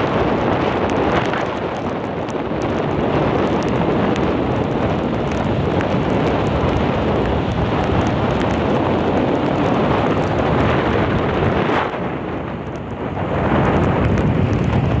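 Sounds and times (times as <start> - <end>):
rain: 0.0 - 15.0
wind blowing across microphone: 0.0 - 15.0.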